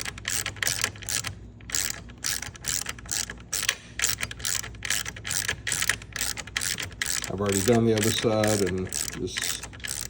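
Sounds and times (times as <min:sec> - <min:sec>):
ratcheting wrench clicking: 0:00.0 - 0:10.0.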